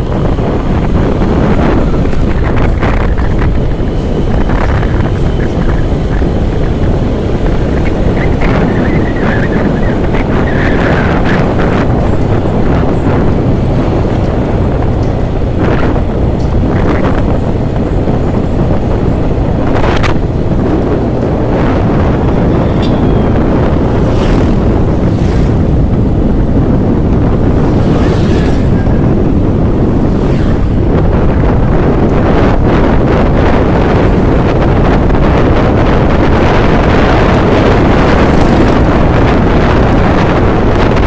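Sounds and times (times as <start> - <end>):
vehicle running: 0.0 - 41.0
wind buffeting microphone: 0.0 - 41.0.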